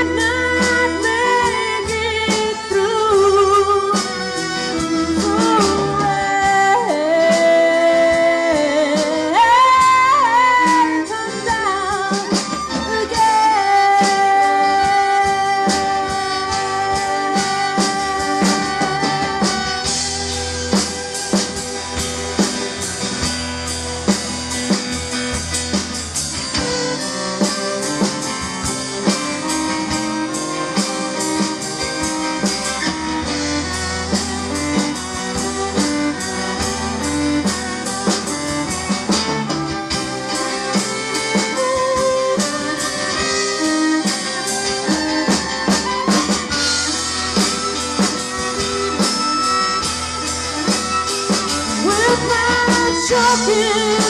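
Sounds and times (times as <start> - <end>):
drum kit beat: 0.0 - 54.0
electric guitar melody: 0.0 - 54.0.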